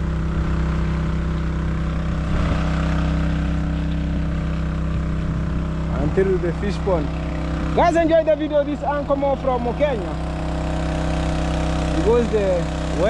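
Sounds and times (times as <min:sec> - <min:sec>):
water pump engine humming: 0:00.0 - 0:13.0.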